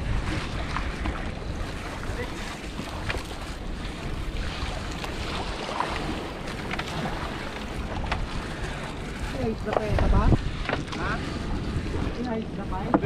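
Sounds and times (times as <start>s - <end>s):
water washing around a boat: 0.0s - 13.0s
wind buffeting microphone: 0.0s - 13.0s.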